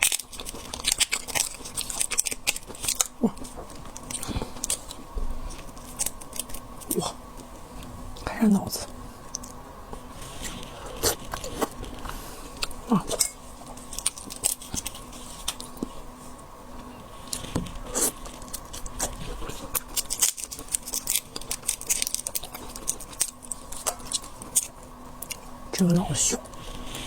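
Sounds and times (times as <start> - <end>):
biting and chewing: 0.0 - 7.9, 8.8 - 25.6.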